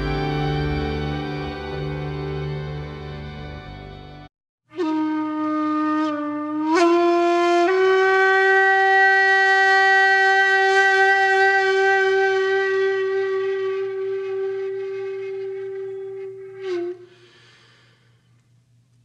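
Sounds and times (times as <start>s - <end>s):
solo wind instrument: 0.0s - 17.5s.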